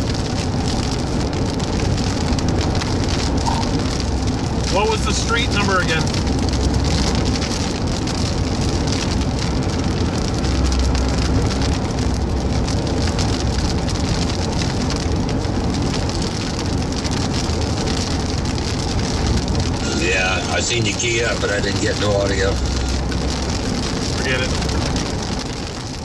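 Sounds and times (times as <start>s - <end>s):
heavy rain drumming on car: 0.0s - 26.0s
road and engine rumble: 0.0s - 26.0s.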